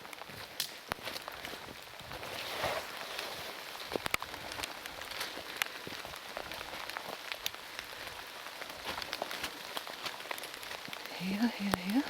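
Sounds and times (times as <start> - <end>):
heavy rain falling: 0.0 - 12.0
raindrops ticking: 0.0 - 12.0.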